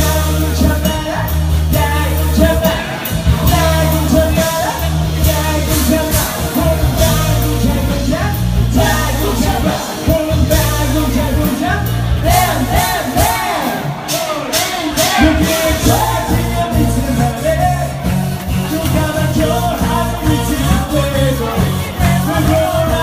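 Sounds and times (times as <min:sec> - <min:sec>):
bass line: 0:00.0 - 0:23.0
live rock band: 0:00.0 - 0:23.0
person singing: 0:00.0 - 0:23.0.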